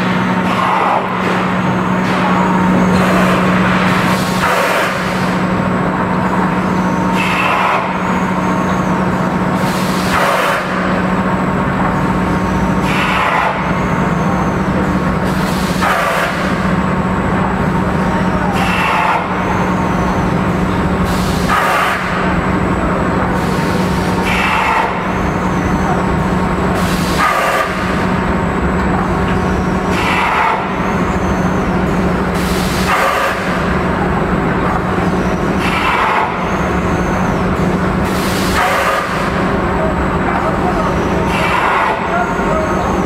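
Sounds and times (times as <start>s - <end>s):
machine hum: 0.0s - 43.0s.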